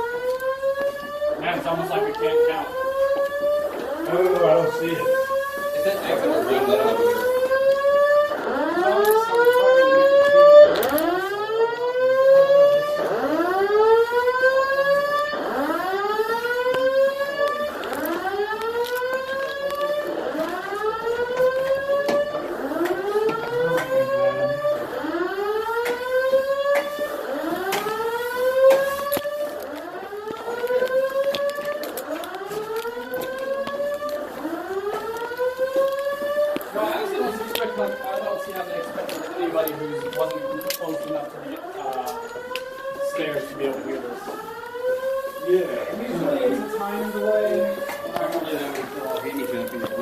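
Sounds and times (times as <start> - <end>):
fire alarm whoop tone: 0.0 - 50.0.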